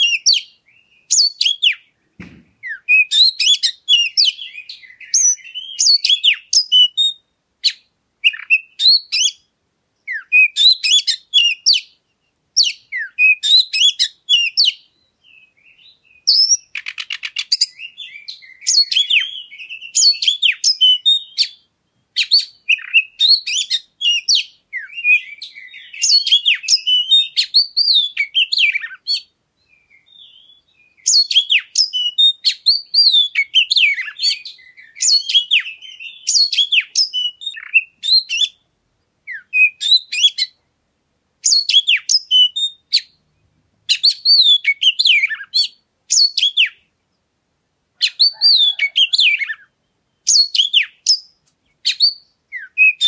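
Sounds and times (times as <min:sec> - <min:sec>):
bird singing whistled song: 0:00.0 - 0:02.0, 0:02.6 - 0:40.6, 0:41.4 - 0:46.9, 0:48.0 - 0:53.0.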